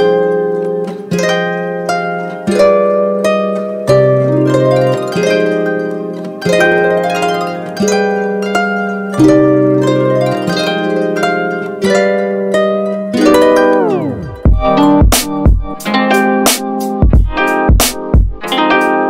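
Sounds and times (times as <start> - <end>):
plucked harp-like strings: 0.0 - 19.0.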